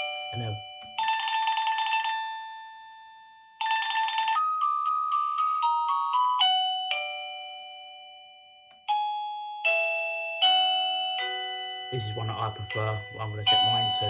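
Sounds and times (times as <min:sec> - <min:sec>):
electronic doorbell chime melodies: 0:00.0 - 0:14.0.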